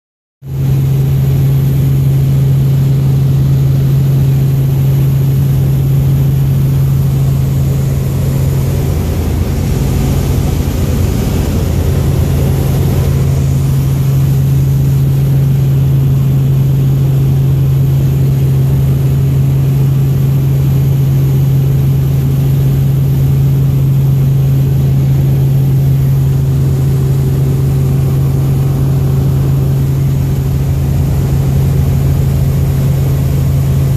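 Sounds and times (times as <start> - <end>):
helicopter rotor and engine drone: 0.5 - 33.9.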